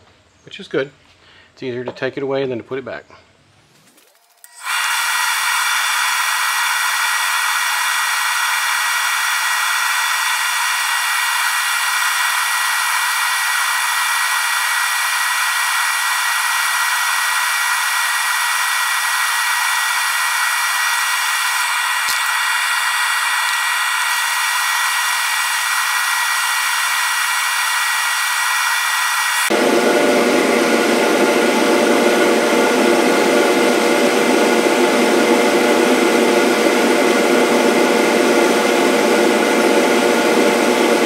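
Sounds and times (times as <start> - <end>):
power tool motor whining: 4.3 - 41.0.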